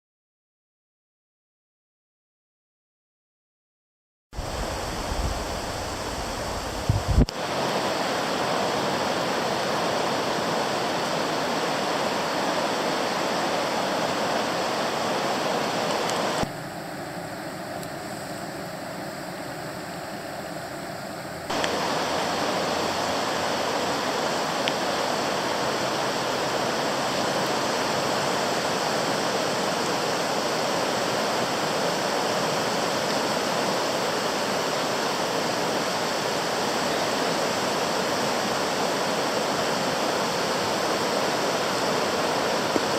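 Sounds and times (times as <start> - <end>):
river rushing in flood: 4.4 - 42.9.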